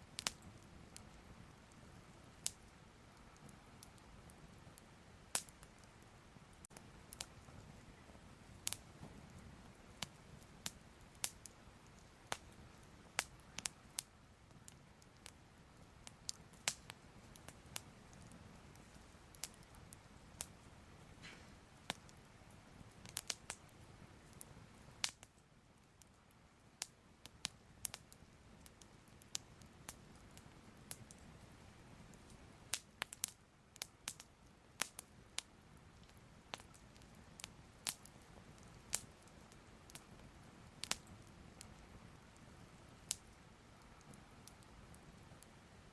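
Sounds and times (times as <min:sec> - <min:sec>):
fire crackling: 0:00.0 - 0:45.9.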